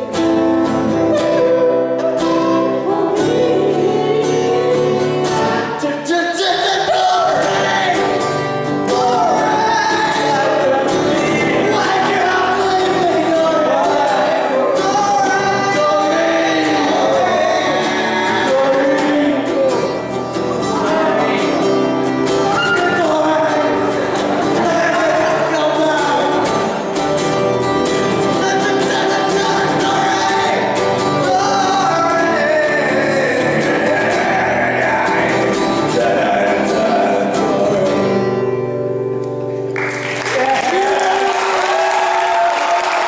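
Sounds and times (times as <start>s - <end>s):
man singing: 0.0s - 27.1s, 27.8s - 38.8s
acoustic guitar strummed: 0.0s - 40.2s.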